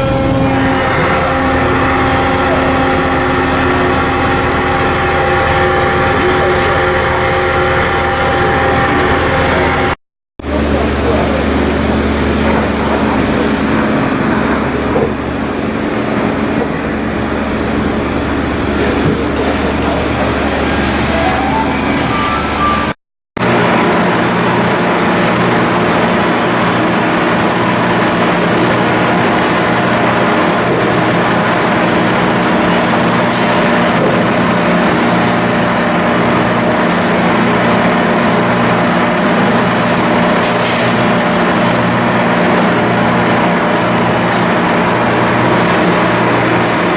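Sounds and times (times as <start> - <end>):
diesel engine drone: 0.0 - 46.9.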